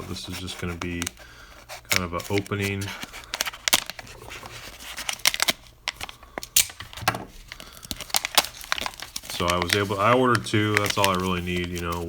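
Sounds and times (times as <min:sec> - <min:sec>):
packaging tearing and crinkling: 0:00.0 - 0:12.0.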